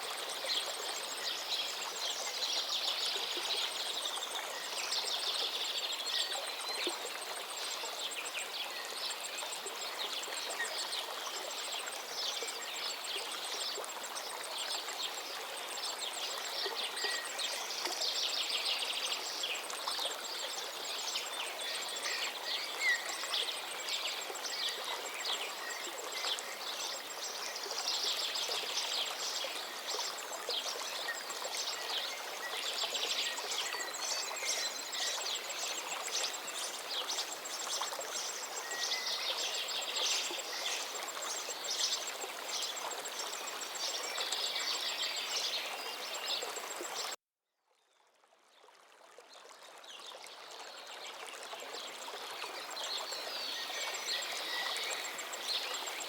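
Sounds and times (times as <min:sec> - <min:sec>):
river flowing: 0:00.0 - 0:47.2, 0:48.2 - 0:56.0.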